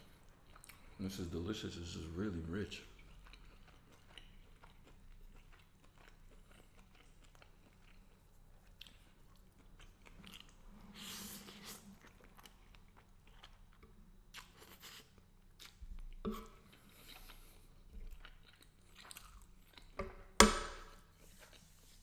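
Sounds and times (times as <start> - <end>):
man chewing food: 0.0 - 1.0, 2.7 - 22.0.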